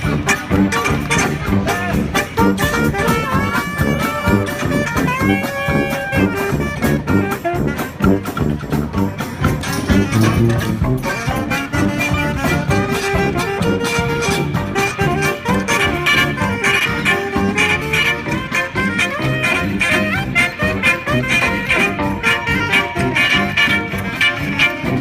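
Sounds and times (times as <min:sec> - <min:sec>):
brass and saxophone melody: 0:00.0 - 0:25.0
steady drum beat: 0:00.0 - 0:25.0.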